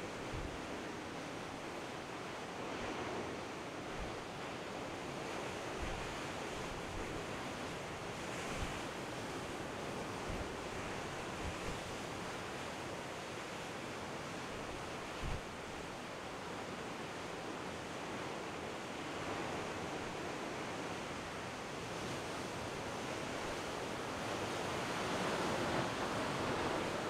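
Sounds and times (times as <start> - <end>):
surf rushing on rocky shore: 0.0 - 27.0.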